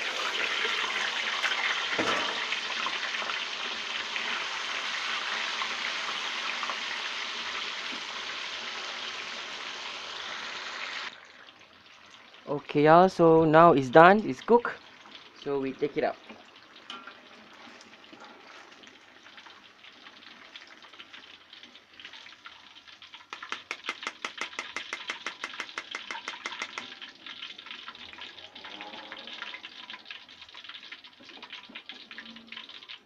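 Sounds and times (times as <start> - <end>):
hot oil sizzling in a wok: 0.0 - 33.0.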